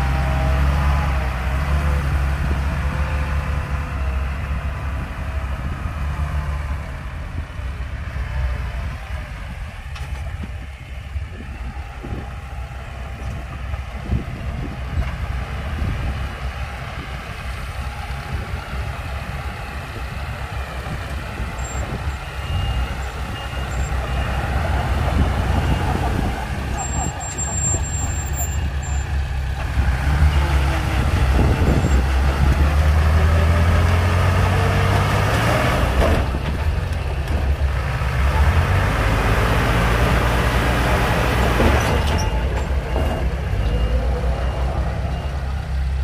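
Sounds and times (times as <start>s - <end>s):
diesel engines running: 0.0s - 46.0s.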